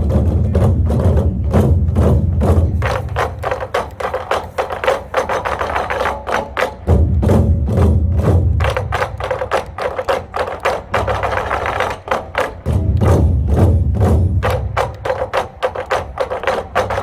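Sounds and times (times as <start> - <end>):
drums beaten in a driving rhythm: 0.0 - 17.0
music: 0.0 - 17.0.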